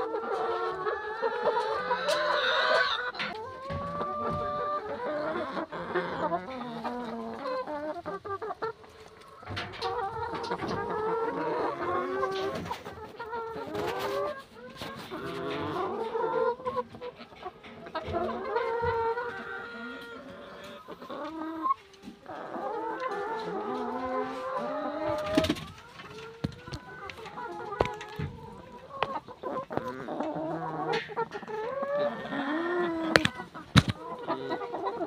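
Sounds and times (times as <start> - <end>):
hens clucking and calling: 0.0 - 35.0.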